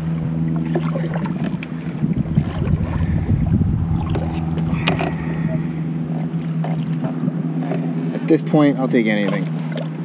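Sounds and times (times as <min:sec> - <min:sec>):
wind buffeting microphone: 0:00.0 - 0:09.3
steady low hum: 0:00.0 - 0:10.0.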